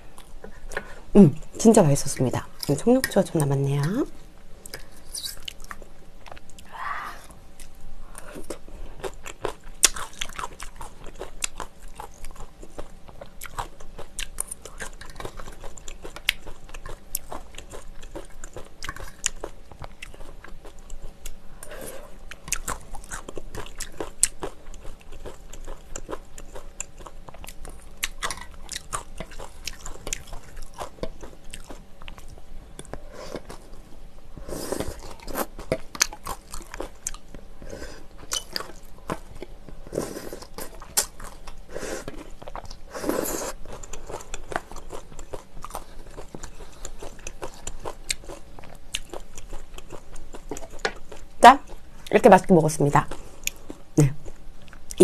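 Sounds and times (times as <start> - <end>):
chewing: 4.6 - 6.7, 7.6 - 33.8, 34.4 - 51.8, 53.1 - 55.0.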